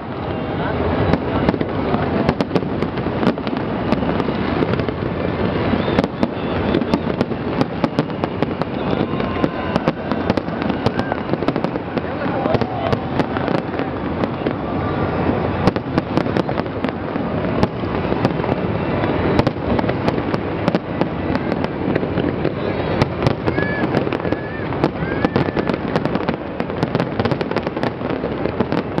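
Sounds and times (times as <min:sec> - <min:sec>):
fireworks crackling: 0:00.0 - 0:29.0
fireworks sharp bangs: 0:00.0 - 0:29.0.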